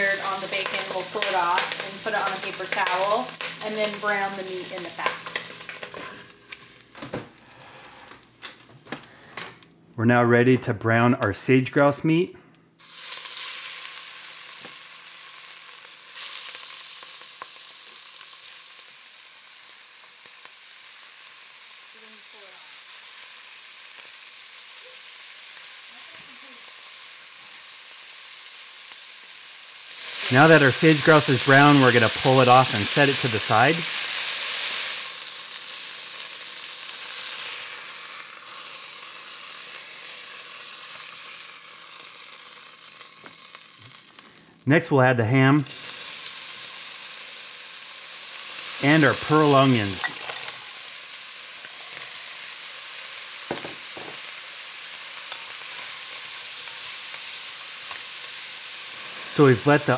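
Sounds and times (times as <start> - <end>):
meat sizzling in fat: 0.0 - 9.8, 12.1 - 59.9.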